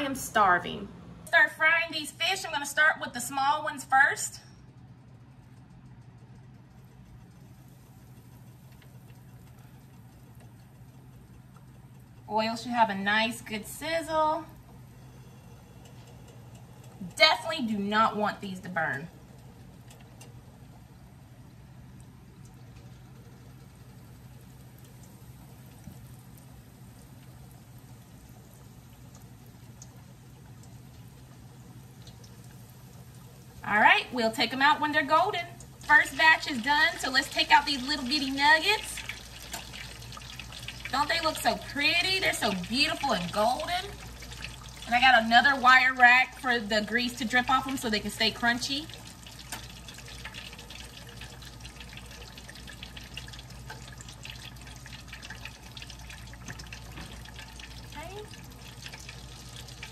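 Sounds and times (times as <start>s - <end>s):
low steady hum: 0.0s - 59.9s
fish frying in hot oil: 6.0s - 59.9s.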